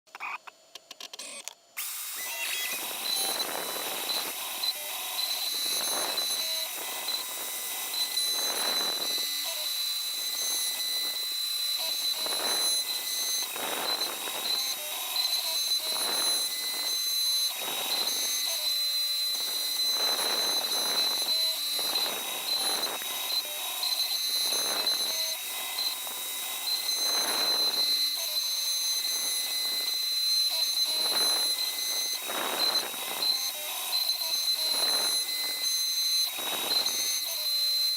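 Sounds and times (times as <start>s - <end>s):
bit cutting wood: 1.2s - 37.9s
router spindle whining: 1.2s - 37.9s
stepper motors humming: 1.2s - 37.9s.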